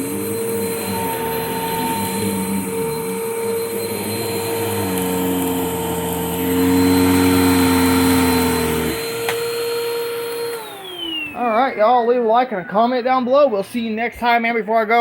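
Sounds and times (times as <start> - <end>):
vacuum cleaner motor whine: 0.0 - 13.4.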